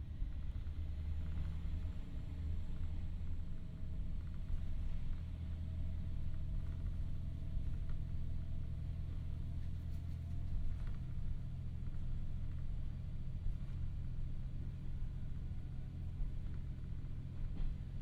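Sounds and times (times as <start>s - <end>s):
diesel railcar engine running: 0.0s - 18.0s.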